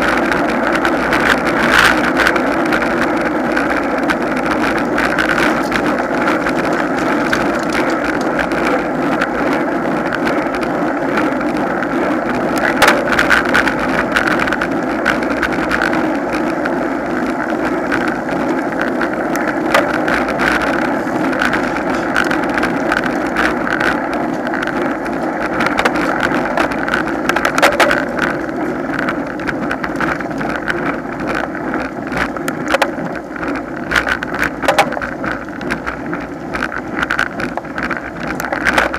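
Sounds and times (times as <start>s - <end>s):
bicycle tyre hum on asphalt: 0.0s - 38.9s
sharp knocks from road bumps: 0.0s - 38.9s
wind rushing on microphone: 0.0s - 38.9s.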